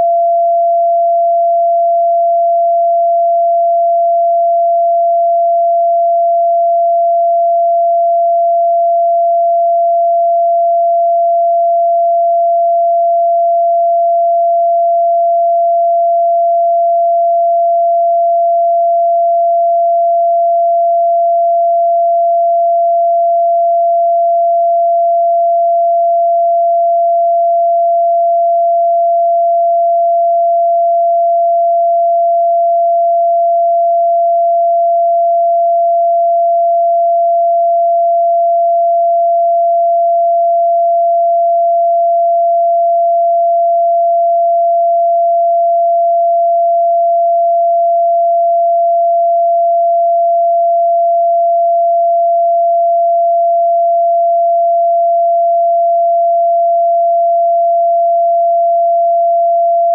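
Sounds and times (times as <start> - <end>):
pure sine-wave tone: 0.0 - 59.9.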